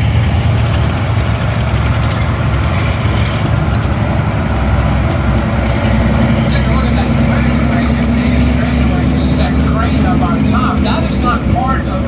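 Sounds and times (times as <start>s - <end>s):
truck engine driving past: 0.0s - 12.0s.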